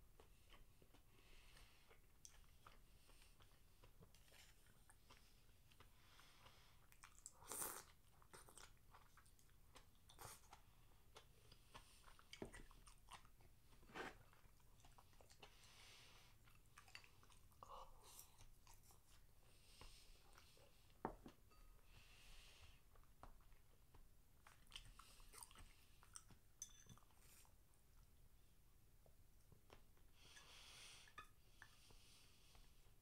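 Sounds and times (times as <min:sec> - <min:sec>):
person chewing food: 0:00.1 - 0:21.8, 0:22.6 - 0:28.5.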